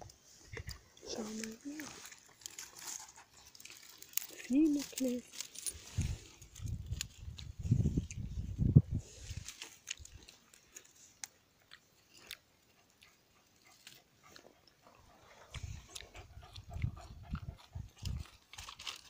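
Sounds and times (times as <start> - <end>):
dry grass and twigs crackling: 0.0 - 19.0.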